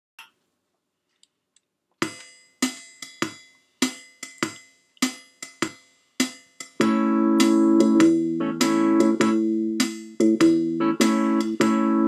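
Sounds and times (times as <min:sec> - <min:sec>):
electronic drum rhythm: 0:02.0 - 0:12.0.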